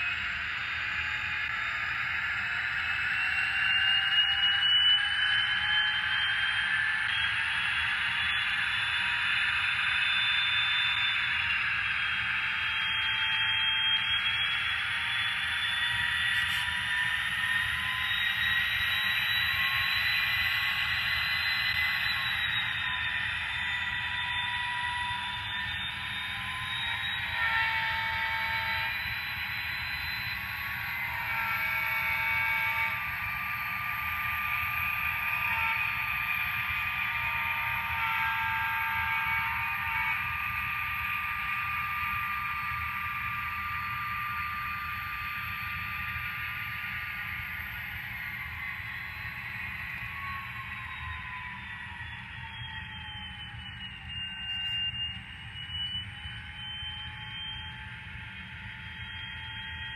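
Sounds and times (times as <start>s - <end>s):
engine whine rising and falling: 0.0s - 59.9s.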